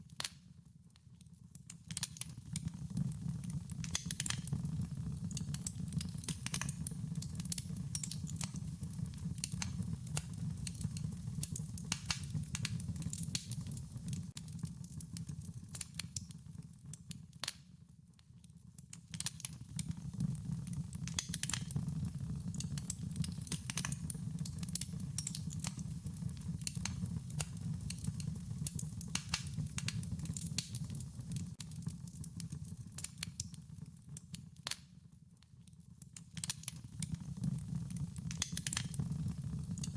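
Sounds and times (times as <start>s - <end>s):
wood fire crackling: 1.5s - 17.7s, 18.6s - 35.1s, 36.0s - 39.9s.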